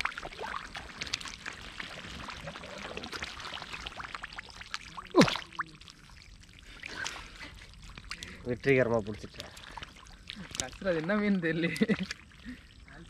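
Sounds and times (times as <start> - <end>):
water and mud splashing: 0.0 - 13.0.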